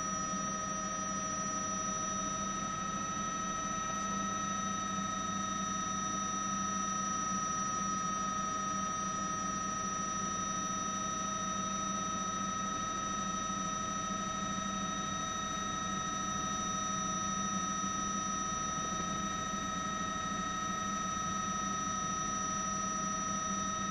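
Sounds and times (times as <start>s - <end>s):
helicopter turbine drone and whine: 0.0s - 23.9s.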